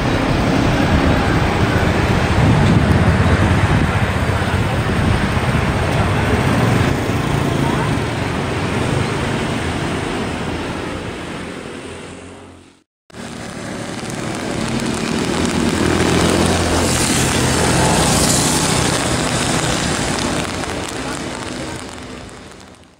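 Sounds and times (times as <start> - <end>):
train approaching: 0.0 - 22.9
train rushing past: 0.0 - 22.9.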